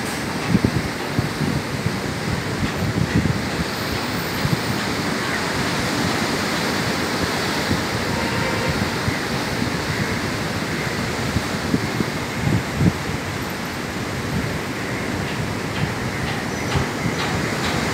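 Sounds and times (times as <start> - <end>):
wind buffeting microphone: 0.1 - 17.9.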